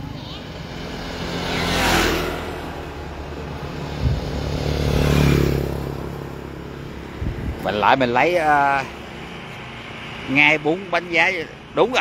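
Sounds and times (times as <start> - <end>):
vehicle engine passing by: 0.4 - 11.2
vehicle whooshing past: 0.5 - 10.7.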